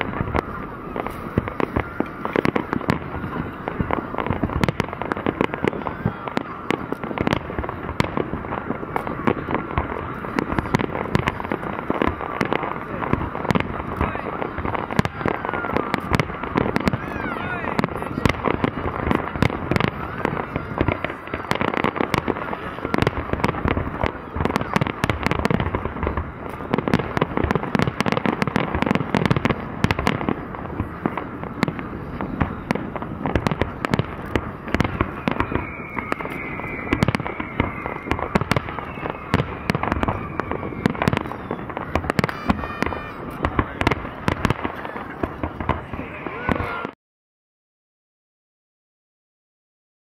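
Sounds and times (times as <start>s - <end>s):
firework bangs and crackles: 0.0s - 47.0s.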